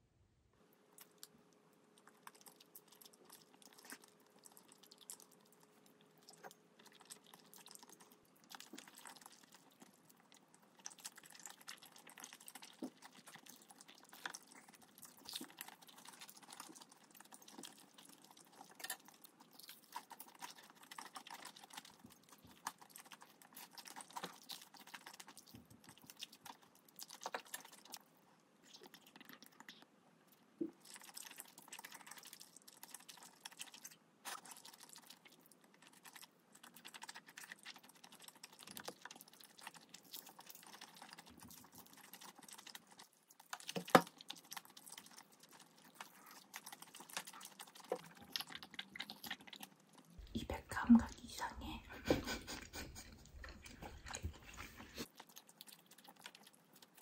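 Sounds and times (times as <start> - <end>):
chewing and slurping noodles: 1.0 - 50.3, 52.0 - 57.0.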